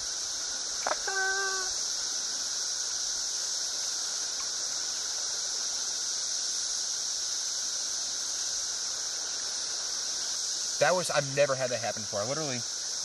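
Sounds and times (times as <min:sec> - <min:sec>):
cicada chorus: 0:00.0 - 0:13.0.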